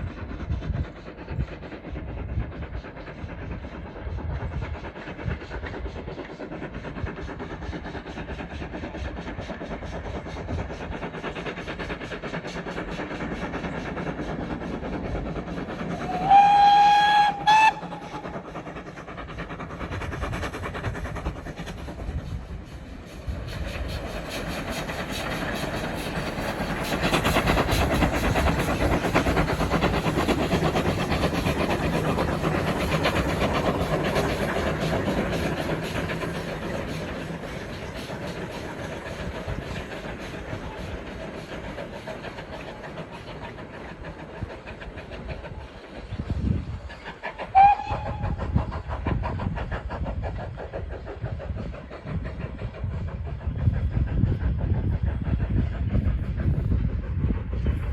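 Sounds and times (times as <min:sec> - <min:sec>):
train wheels clicking on rails: 0:00.0 - 0:57.9.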